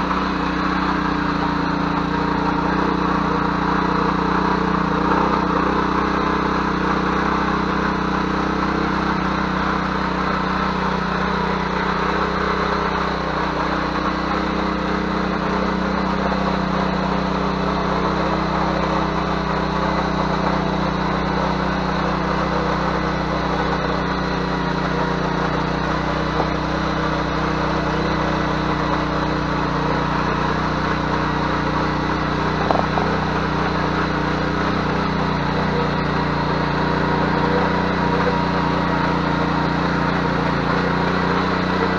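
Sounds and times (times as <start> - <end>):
tiller engine running under load: 0.0 - 41.9.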